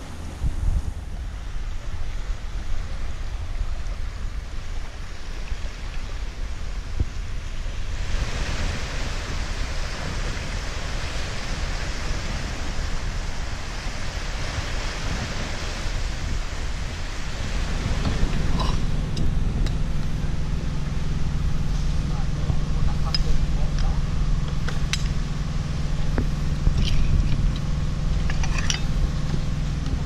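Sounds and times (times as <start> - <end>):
waves washing against shore: 0.0 - 30.0
wind buffeting microphone: 0.0 - 30.0.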